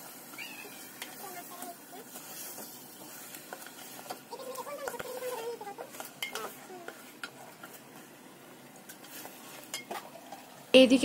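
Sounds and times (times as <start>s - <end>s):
fish frying with light sizzle: 0.0s - 11.0s.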